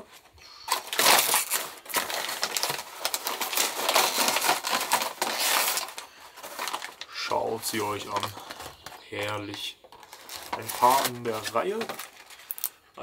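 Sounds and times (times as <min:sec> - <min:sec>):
plastic packaging crinkling: 0:00.1 - 0:12.8.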